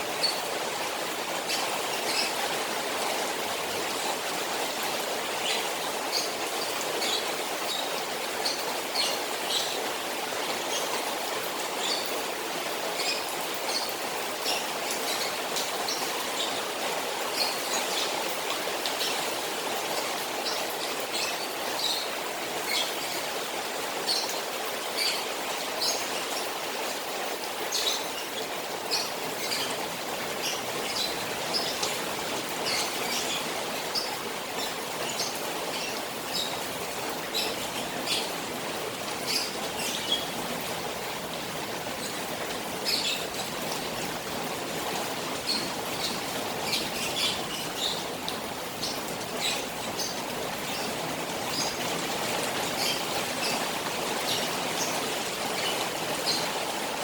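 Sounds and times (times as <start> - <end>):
rain falling on pond: 0.0 - 57.0
running water: 0.0 - 57.0.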